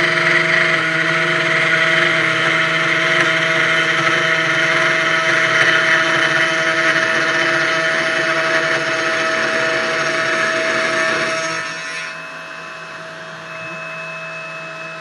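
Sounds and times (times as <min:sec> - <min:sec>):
router spindle whine: 0:00.0 - 0:15.0.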